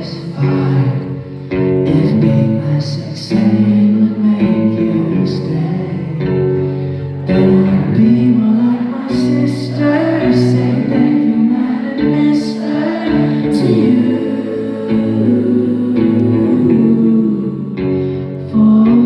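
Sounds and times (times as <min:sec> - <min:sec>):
live pop concert singing: 0:00.0 - 0:19.0.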